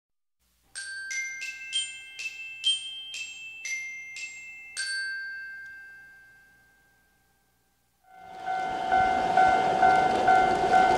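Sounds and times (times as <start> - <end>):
glockenspiel-like music jingle: 0.8 - 7.5, 8.1 - 10.9.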